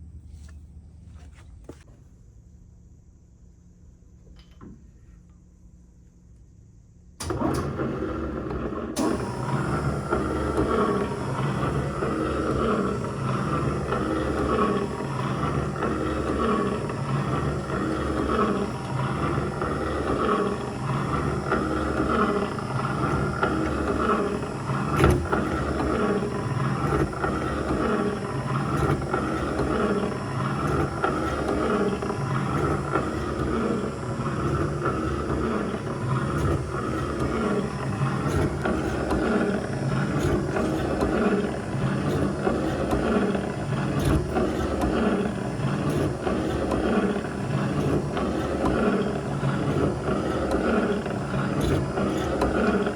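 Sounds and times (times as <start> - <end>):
excavator diesel engine running: 7.2 - 52.9.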